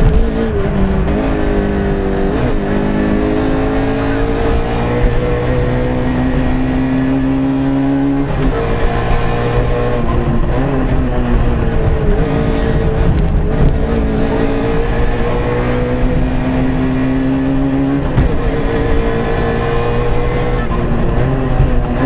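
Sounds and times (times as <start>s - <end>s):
car engine running hard: 0.0s - 22.0s.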